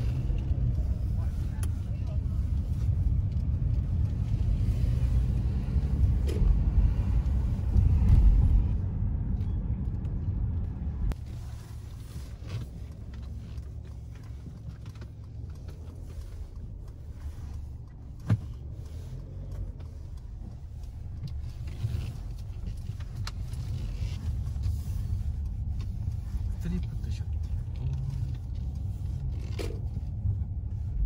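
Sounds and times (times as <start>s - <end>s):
car engine and road rumble: 0.0s - 31.0s.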